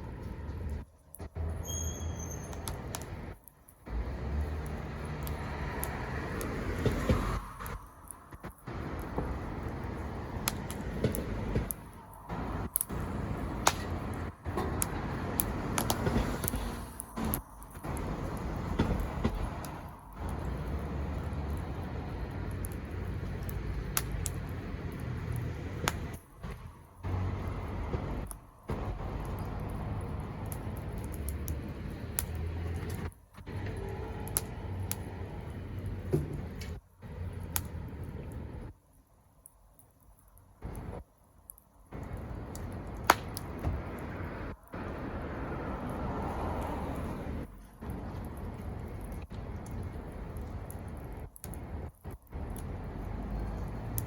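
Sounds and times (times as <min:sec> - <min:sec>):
campfire burning: 0:00.0 - 0:54.0
fire crackling and popping: 0:00.0 - 0:54.0
fire rushing: 0:00.0 - 0:54.0.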